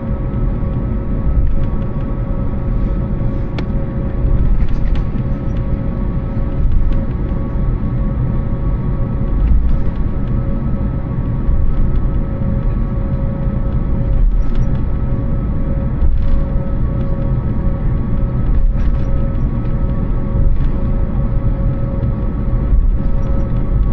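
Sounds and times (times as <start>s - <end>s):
jet engine cabin rumble: 0.0s - 23.9s.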